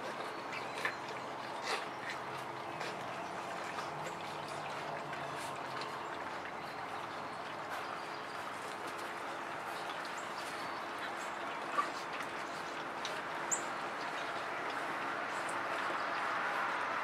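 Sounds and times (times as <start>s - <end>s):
puppies lapping food: 0.0s - 17.0s.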